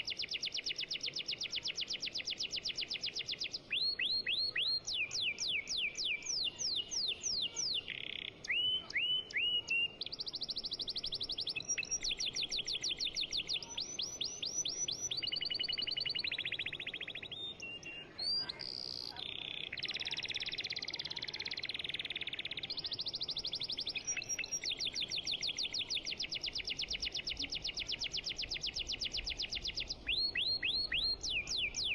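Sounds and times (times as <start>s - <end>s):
songbird chirping and trilling: 0.0s - 31.9s.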